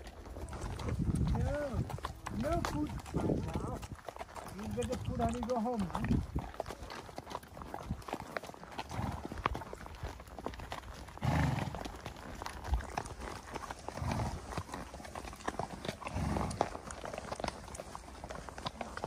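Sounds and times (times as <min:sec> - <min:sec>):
hooves clip-clopping on gravel: 0:00.0 - 0:19.0.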